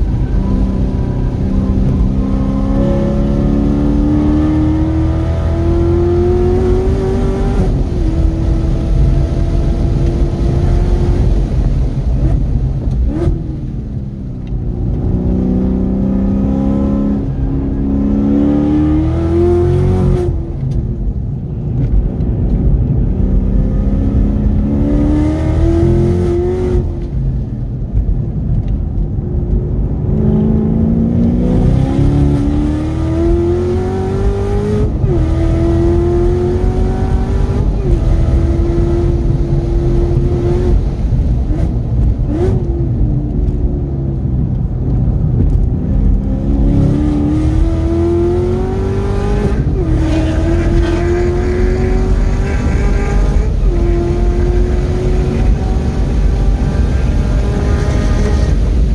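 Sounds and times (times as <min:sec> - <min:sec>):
car engine revving at full throttle: 0:00.0 - 0:58.9.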